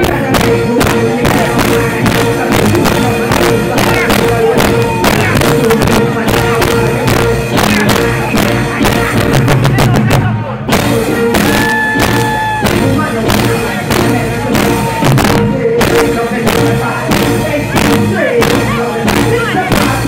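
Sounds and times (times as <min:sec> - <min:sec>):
drum beat: 0:00.0 - 0:20.0
live band music: 0:00.0 - 0:20.0.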